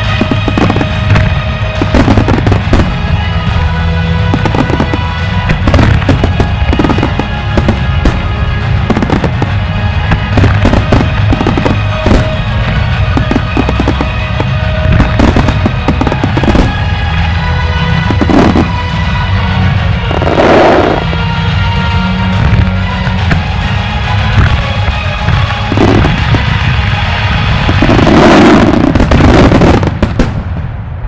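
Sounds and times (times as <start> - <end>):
music playing: 0.0 - 30.8
deep rumble: 0.0 - 31.0
fireworks bursting and crackling: 0.0 - 31.0.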